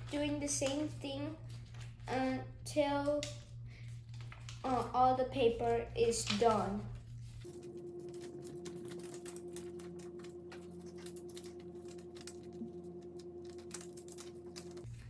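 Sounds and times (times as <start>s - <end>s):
paper rustling and crackling: 0.0s - 2.4s, 3.2s - 15.0s
faint hum: 0.0s - 15.0s.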